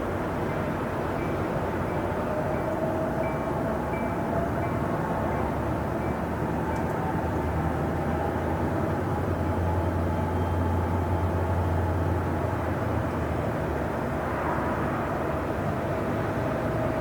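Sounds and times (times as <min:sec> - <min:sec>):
low rumble of trains: 0:00.0 - 0:17.0.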